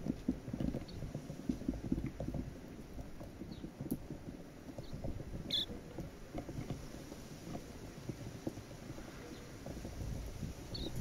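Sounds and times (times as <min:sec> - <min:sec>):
birds pecking taps and crunches: 0:00.0 - 0:11.0.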